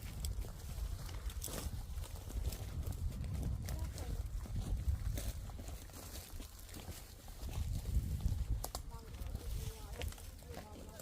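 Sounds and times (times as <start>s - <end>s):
footsteps on rough trail: 0.0s - 11.0s
steady low rumble: 0.0s - 11.0s.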